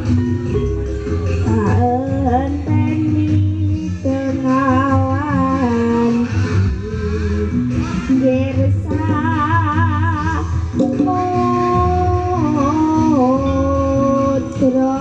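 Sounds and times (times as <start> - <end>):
instrumental accompaniment: 0.0 - 15.0
girl singing long notes: 1.4 - 15.0.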